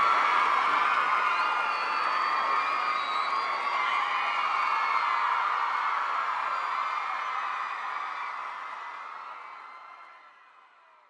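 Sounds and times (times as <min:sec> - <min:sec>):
crowd cheering and whooping: 0:00.0 - 0:10.7.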